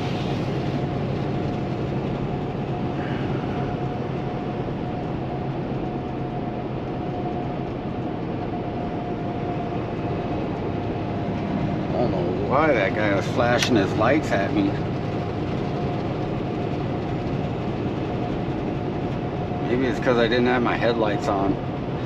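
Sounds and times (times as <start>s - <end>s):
diesel engine drone: 0.0s - 22.0s
road noise: 0.0s - 22.0s
thin steady whine: 0.0s - 22.0s.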